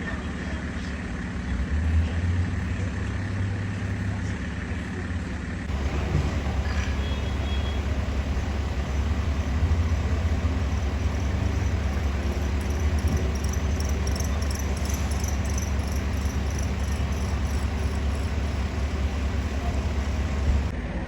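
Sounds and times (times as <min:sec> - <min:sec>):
large vehicle engine rumble: 0:00.2 - 0:20.9
street noise: 0:00.7 - 0:21.0.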